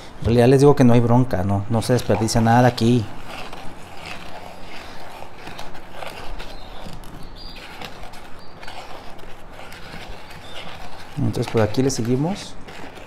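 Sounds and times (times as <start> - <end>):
metal spoon stirring clay slip: 0.3 - 13.0
spoon scraping plastic bowl: 1.6 - 13.0.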